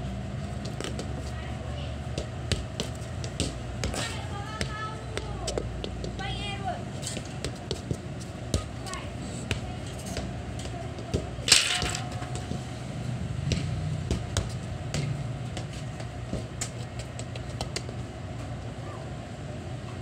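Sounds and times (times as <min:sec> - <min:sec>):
steady low hum: 0:00.0 - 0:20.0
football kicked and bouncing on concrete: 0:00.3 - 0:18.6.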